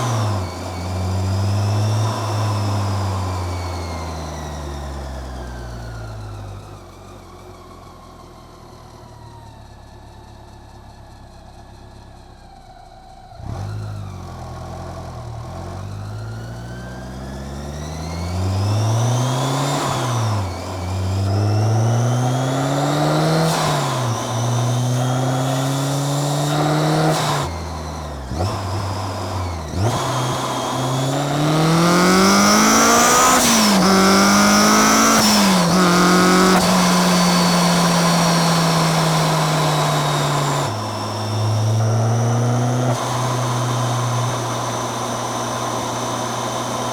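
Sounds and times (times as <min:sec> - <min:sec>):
car engine accelerating: 0:00.0 - 0:06.7, 0:13.3 - 0:46.9
supercharger whine: 0:00.0 - 0:46.9.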